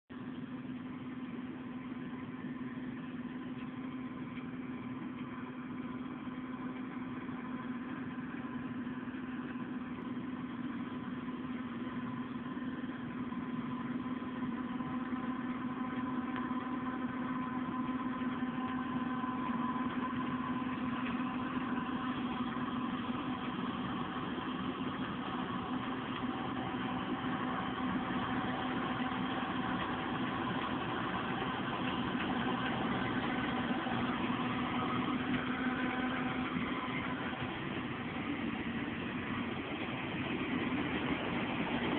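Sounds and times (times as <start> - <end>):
combine harvester running: 0.1 - 41.9.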